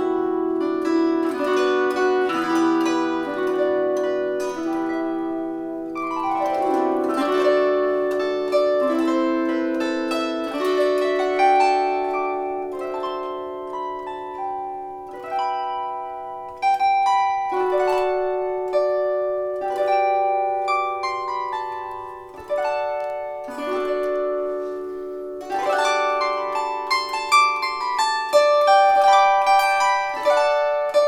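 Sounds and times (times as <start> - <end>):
plucked string instrument: 0.0 - 31.0.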